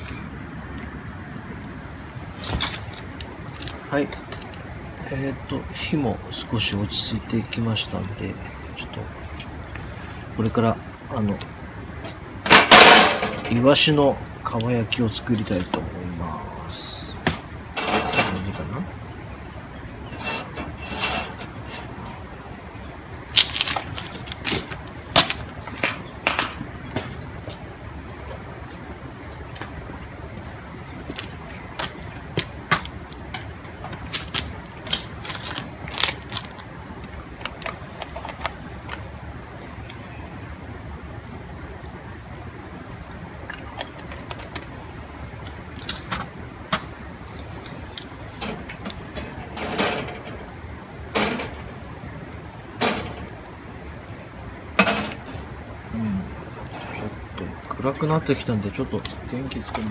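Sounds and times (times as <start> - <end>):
low hiss of fire: 0.0 - 59.9
wood fire crackling: 0.0 - 59.9.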